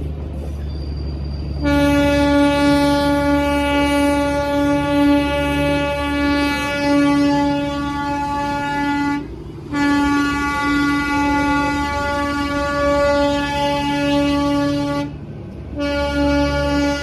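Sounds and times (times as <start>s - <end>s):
train whistle blowing: 1.1s - 15.1s, 15.8s - 17.0s.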